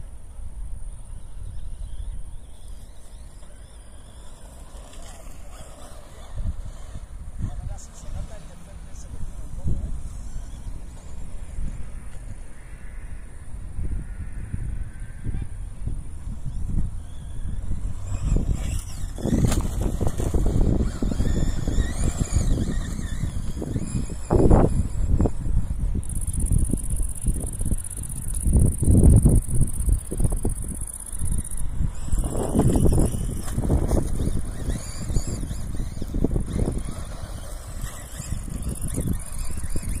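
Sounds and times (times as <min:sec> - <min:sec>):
tyres and wind rumble: 0:00.0 - 0:40.0
electric motor whining: 0:01.1 - 0:40.0.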